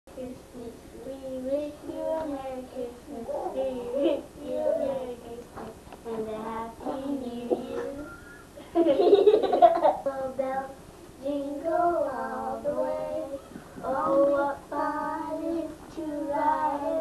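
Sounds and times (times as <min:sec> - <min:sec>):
girls singing together: 0:00.1 - 0:08.2, 0:10.0 - 0:17.0.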